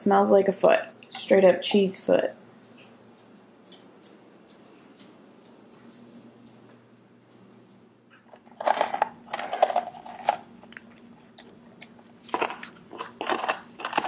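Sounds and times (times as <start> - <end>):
dog crunching a chew: 2.6 - 14.0.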